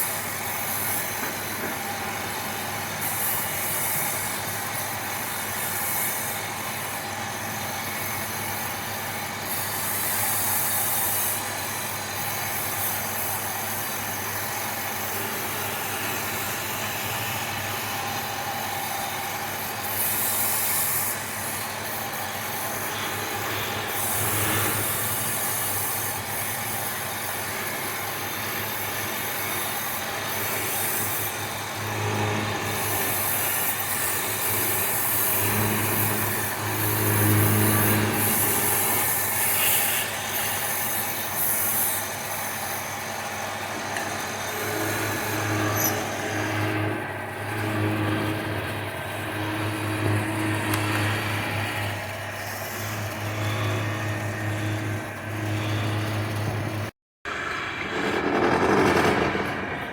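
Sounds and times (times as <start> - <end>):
turning tool hissing cuts: 0.0 - 59.0
wood lathe motor hum: 0.0 - 59.3.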